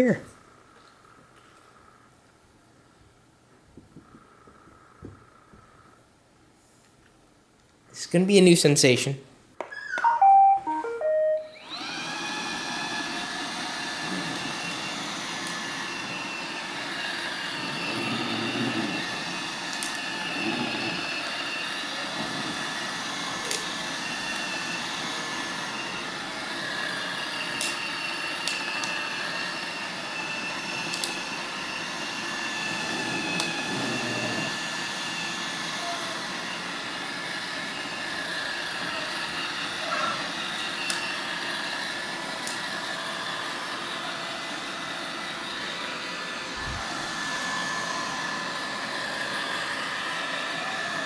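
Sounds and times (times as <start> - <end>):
robot vacuum whirring: 9.7 - 51.0.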